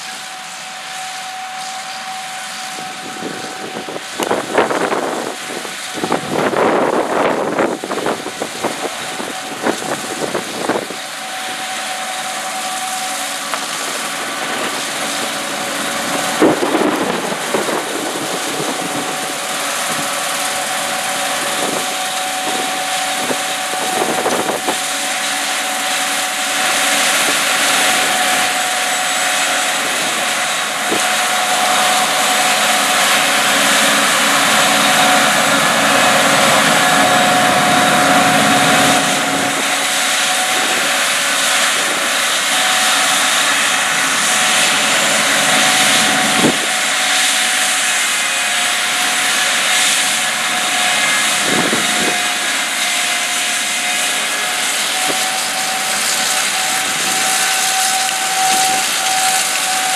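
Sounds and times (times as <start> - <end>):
combine harvester running: 0.0 - 59.9
high steady whine: 0.0 - 59.9.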